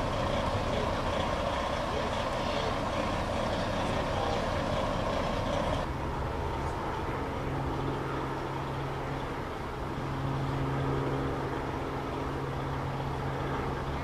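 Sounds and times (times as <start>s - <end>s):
fire engine idling: 0.0s - 14.0s
steady rushing noise: 0.0s - 14.0s.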